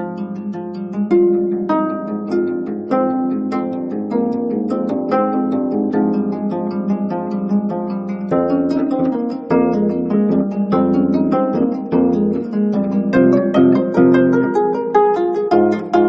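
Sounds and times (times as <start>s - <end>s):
plucked zither playing: 0.0s - 16.0s.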